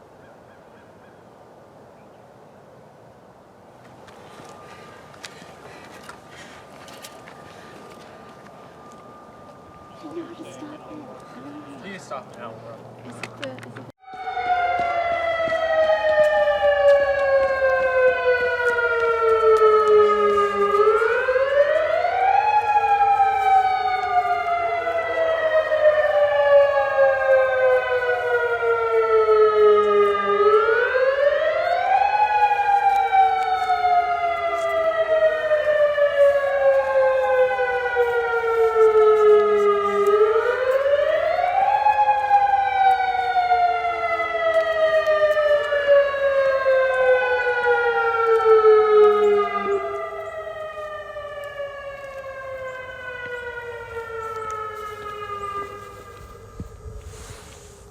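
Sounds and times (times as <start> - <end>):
outdoor warning siren wailing: 4.0 - 13.0, 14.0 - 57.9.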